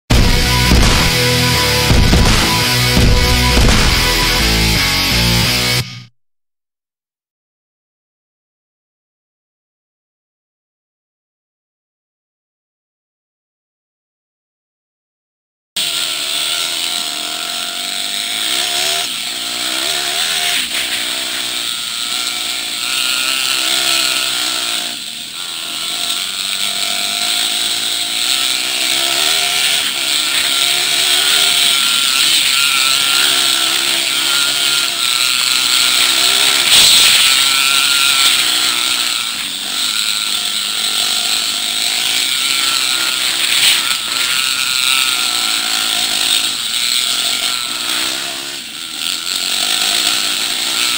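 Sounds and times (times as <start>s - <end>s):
dirt bike engines revving: 0.1s - 6.0s, 15.8s - 50.9s.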